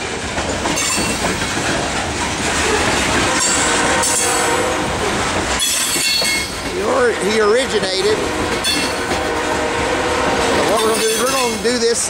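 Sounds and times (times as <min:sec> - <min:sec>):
train wheels clacking over rail joints: 0:00.0 - 0:12.0.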